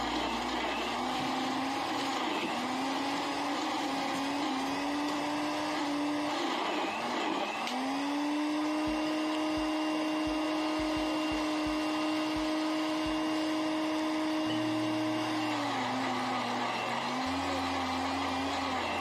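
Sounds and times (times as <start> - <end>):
blender motor running: 0.0 - 19.0.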